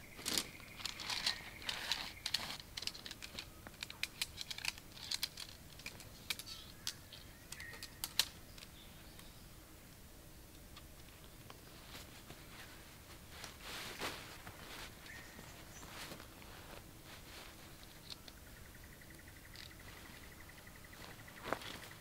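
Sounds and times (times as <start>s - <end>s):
rustling: 0.0s - 8.8s, 10.7s - 18.4s, 19.5s - 22.0s.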